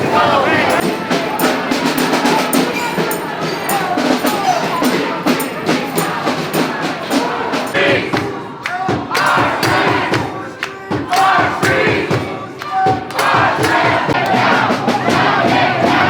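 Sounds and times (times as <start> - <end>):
crowd chanting and shouting: 0.0 - 16.0.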